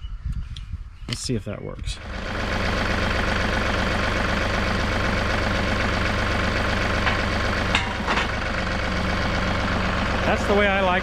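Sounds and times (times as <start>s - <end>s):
tractor diesel engine running: 1.8s - 11.0s.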